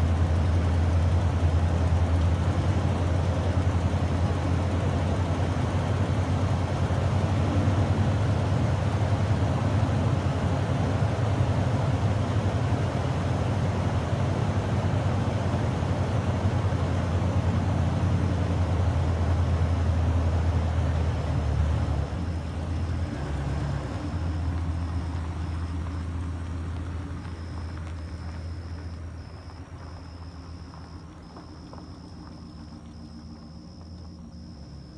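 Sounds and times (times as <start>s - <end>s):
vehicle engine humming: 0.0s - 34.9s.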